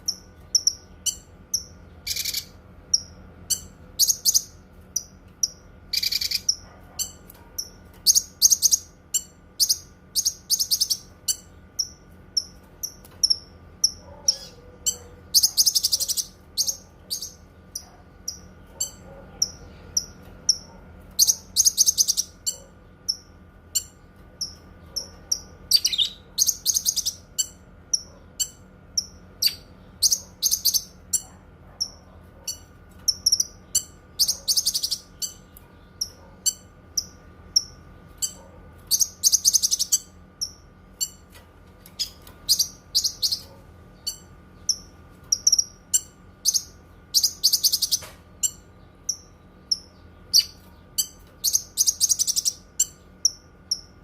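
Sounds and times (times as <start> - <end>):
songbird chirping and trilling: 0.0 - 41.2, 41.9 - 54.0.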